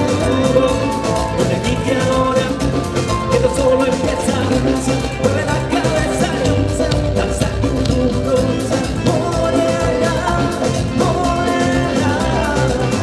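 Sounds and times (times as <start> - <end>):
electric guitar: 0.0 - 13.0
man singing: 0.0 - 13.0
timbales and congas: 0.0 - 13.0.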